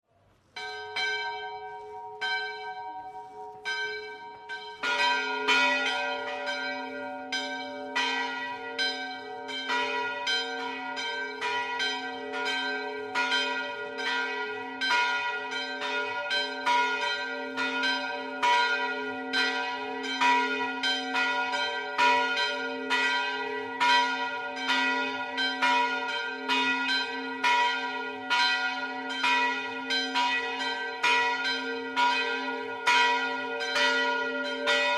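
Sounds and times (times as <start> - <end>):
church tower bells ringing: 0.4 - 34.9.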